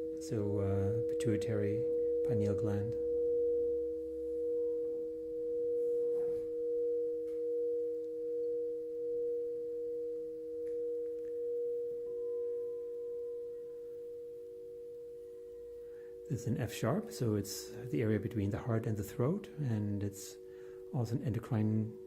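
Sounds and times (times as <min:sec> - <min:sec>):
another singing bowl tone: 0:00.0 - 0:22.0
lower singing bowl tone: 0:00.0 - 0:22.0
singing bowl sustained tone: 0:00.0 - 0:22.0.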